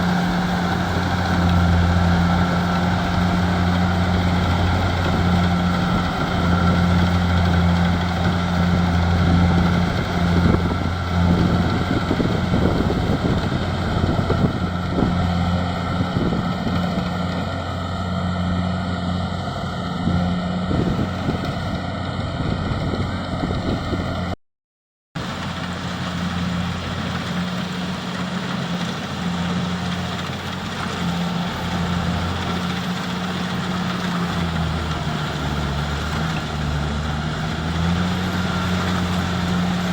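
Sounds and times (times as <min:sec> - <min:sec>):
combine harvester engine running: 0:00.0 - 0:24.3, 0:25.2 - 0:39.9.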